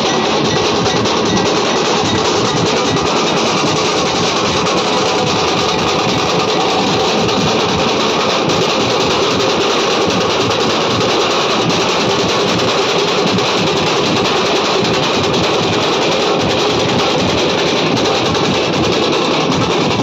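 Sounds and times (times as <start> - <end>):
dhol drums beaten with sticks: 0.0 - 20.0.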